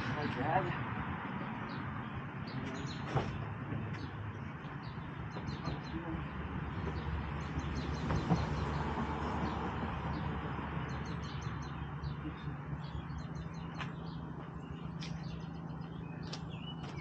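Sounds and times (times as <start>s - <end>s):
small birds chirping: 1.4s - 17.0s.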